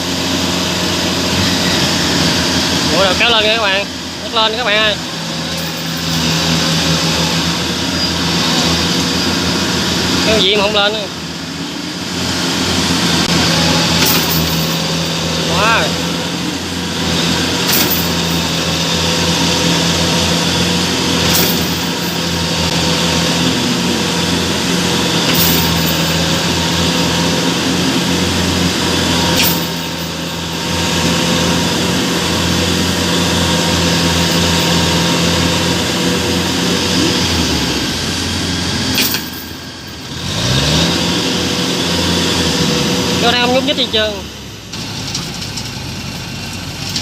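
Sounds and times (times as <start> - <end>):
diesel engines under heavy load: 0.0 - 47.0.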